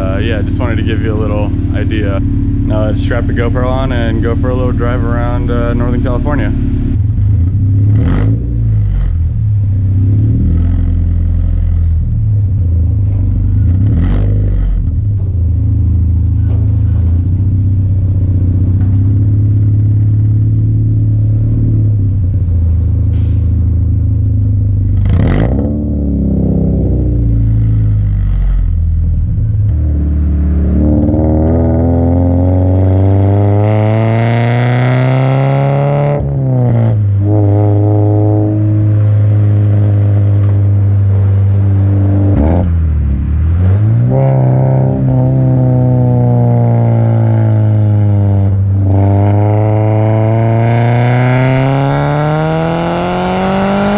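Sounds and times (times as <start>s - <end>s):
car engine revving while driving: 0.0s - 12.4s, 13.1s - 53.9s.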